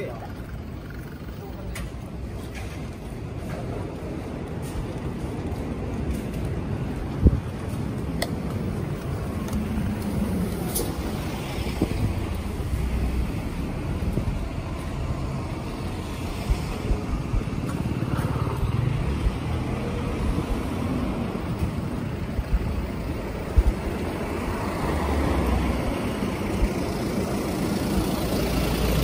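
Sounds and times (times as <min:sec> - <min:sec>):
cars passing: 0:00.0 - 0:29.0.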